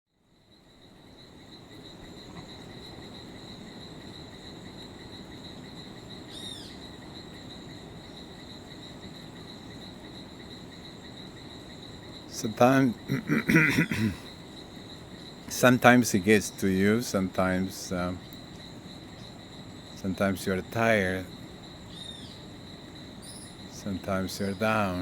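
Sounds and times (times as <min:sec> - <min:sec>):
insects chirring: 0:00.1 - 0:25.0.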